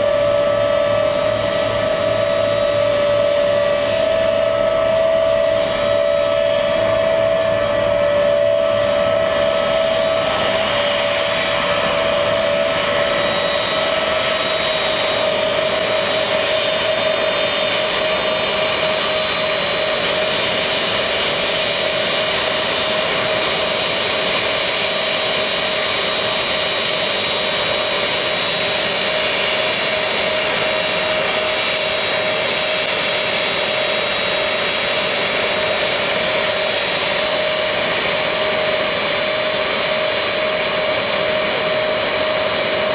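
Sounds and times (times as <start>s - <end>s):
jet engines whining: 0.0s - 42.9s.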